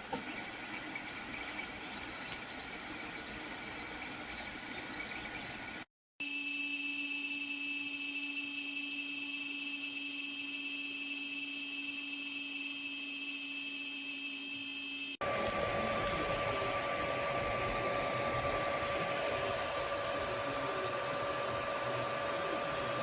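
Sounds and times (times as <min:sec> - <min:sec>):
printer fans whirring: 0:00.0 - 0:05.8, 0:08.3 - 0:23.0.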